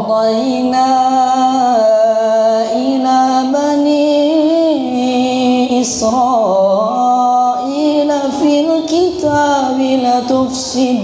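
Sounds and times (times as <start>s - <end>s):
boy reciting melodically: 0.0s - 11.0s.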